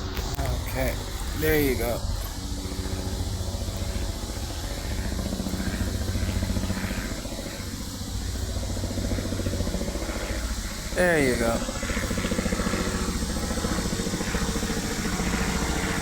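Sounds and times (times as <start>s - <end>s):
helicopter engine drone: 0.0s - 16.0s
helicopter rotor chopping: 0.0s - 16.0s.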